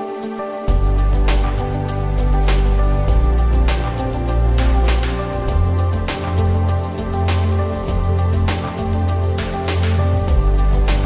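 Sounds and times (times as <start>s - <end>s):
deep bass: 0.7s - 11.0s.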